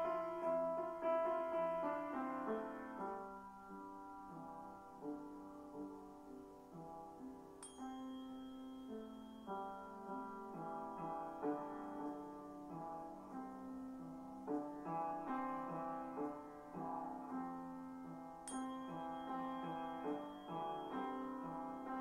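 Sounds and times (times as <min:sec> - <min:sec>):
slow piano-like keyboard music: 0:00.0 - 0:22.0.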